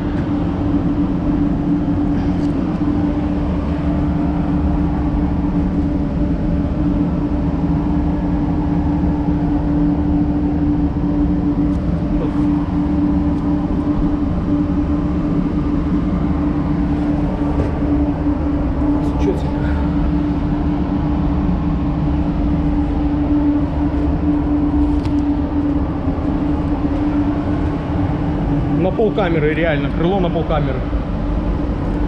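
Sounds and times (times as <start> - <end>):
machine hum with low rumble: 0.0 - 32.0.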